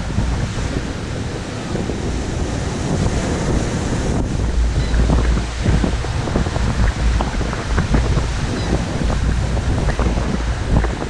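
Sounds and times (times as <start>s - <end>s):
waves washing ashore: 0.0s - 11.0s
wind buffeting microphone: 0.0s - 11.0s.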